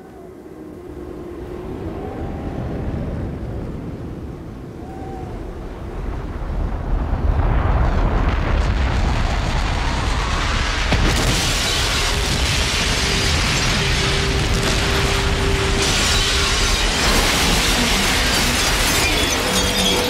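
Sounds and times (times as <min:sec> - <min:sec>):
heavy low rumble: 0:00.3 - 0:19.4
rush of fire and debris: 0:00.6 - 0:20.0.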